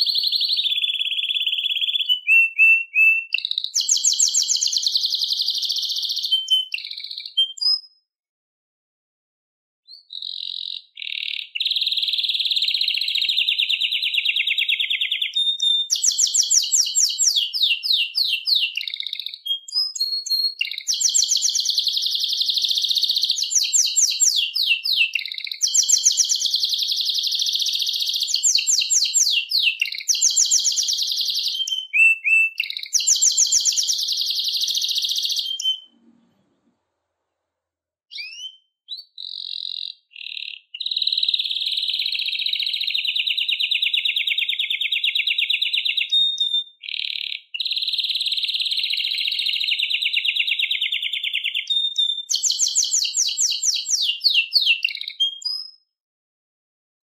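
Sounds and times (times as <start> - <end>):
canary singing trills: 0.0 - 8.0, 9.9 - 36.0, 38.1 - 55.8.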